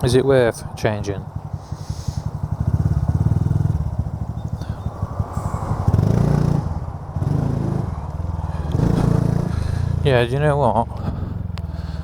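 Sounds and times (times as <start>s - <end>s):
motorcycle engine accelerating: 1.2s - 12.0s.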